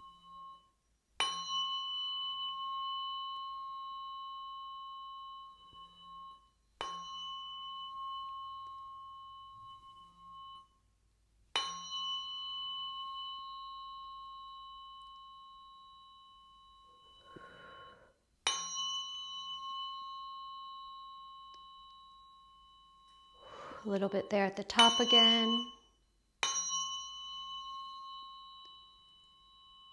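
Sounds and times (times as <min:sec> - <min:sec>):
tuning forks ringing: 0:00.0 - 0:11.0, 0:11.6 - 0:24.1, 0:24.7 - 0:29.9.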